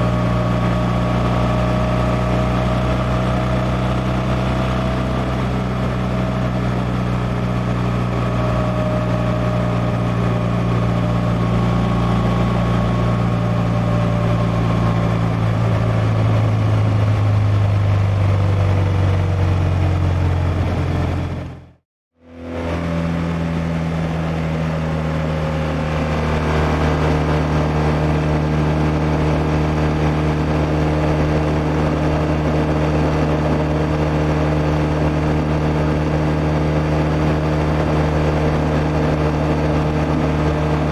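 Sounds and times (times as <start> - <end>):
motorcycle engine running: 0.0 - 40.9
road noise: 0.0 - 40.9.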